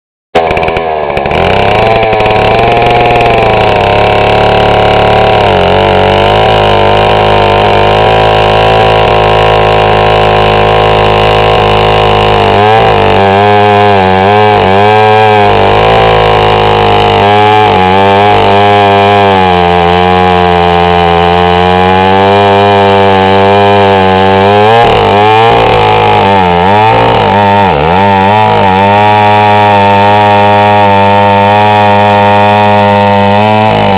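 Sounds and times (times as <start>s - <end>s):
two-stroke chainsaw revving: 0.4s - 33.9s.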